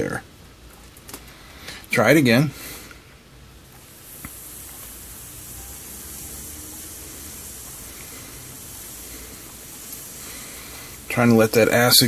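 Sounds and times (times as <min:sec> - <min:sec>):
soldering iron tip sizzling: 0:00.8 - 0:12.0.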